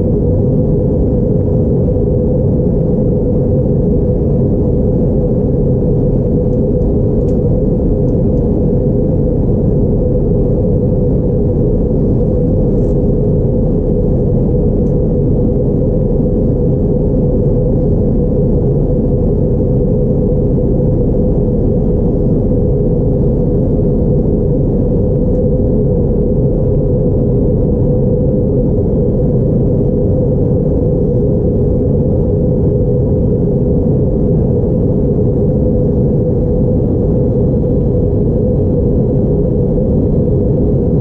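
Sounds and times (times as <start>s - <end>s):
aircraft cabin engine and airflow rush: 0.0s - 41.0s
steady hum: 0.0s - 41.0s.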